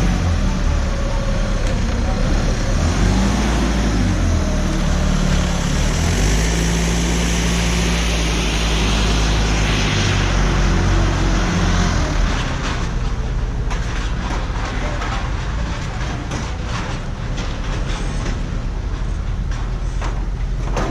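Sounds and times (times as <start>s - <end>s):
road noise: 0.0s - 20.9s
vehicle engine drone: 0.0s - 20.9s.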